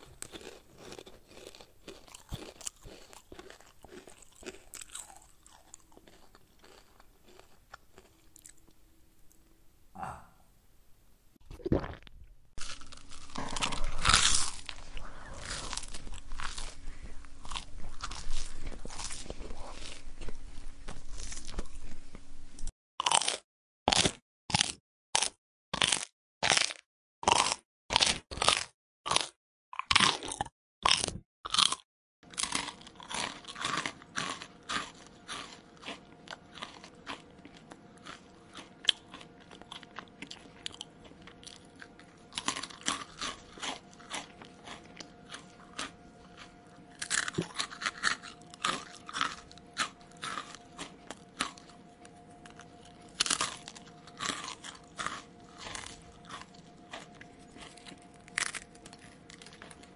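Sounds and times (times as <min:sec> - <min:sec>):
mouth chewing crunchy food: 0:00.0 - 0:09.4, 0:11.4 - 0:22.3, 0:23.0 - 0:59.9
faint steady hum: 0:00.0 - 0:22.7, 0:32.3 - 0:59.9.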